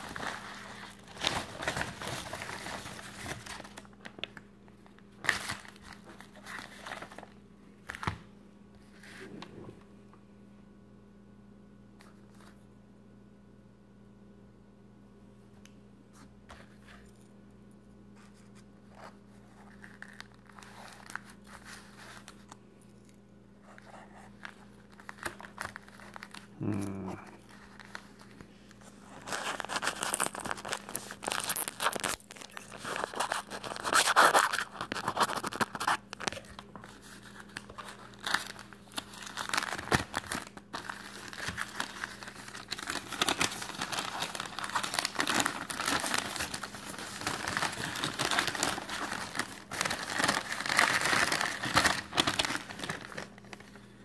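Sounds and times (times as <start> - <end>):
paper packaging crinkling: 0.0 - 8.2, 18.2 - 54.0.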